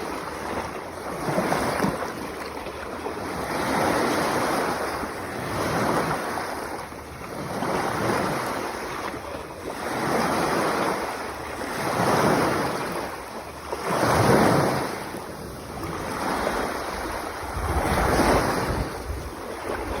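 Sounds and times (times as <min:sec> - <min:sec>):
sea waves surging: 0:00.0 - 0:20.0.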